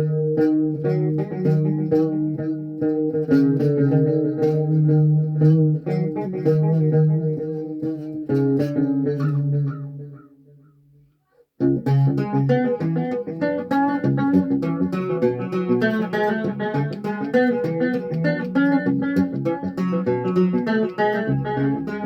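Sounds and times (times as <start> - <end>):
electric guitar riff: 0.0 - 11.0, 11.6 - 22.0.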